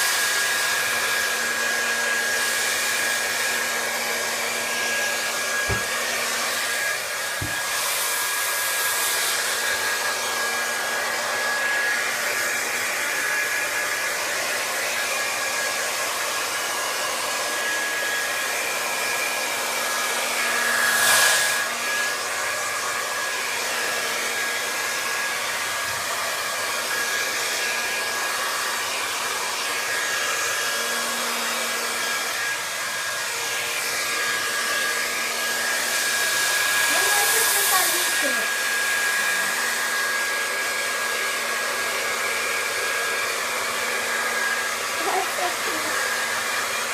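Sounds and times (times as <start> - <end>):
hair dryer blowing: 0.0 - 46.9.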